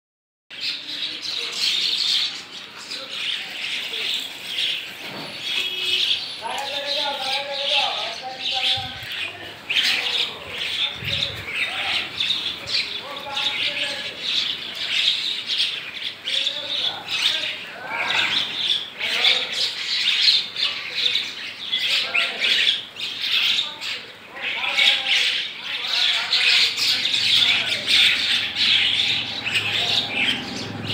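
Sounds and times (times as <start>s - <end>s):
flock of birds chirping: 0.5s - 30.9s.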